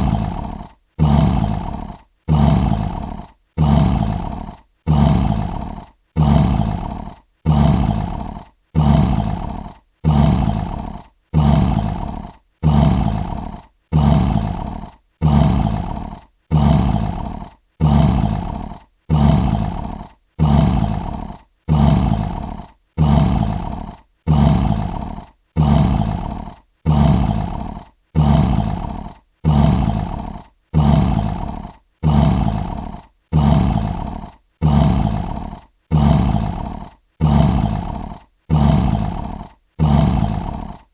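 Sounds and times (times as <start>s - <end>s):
lion roaring: 0.0s - 40.9s.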